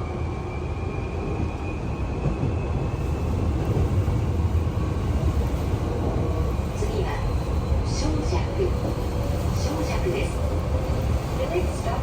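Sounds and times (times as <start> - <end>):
electric train rumble and whine: 0.0 - 12.0.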